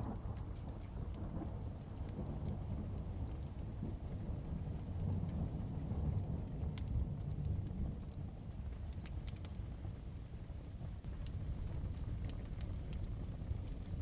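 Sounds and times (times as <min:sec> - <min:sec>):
distant thunder rumble: 0:00.0 - 0:08.8, 0:11.1 - 0:14.0
steady rain: 0:00.0 - 0:14.0.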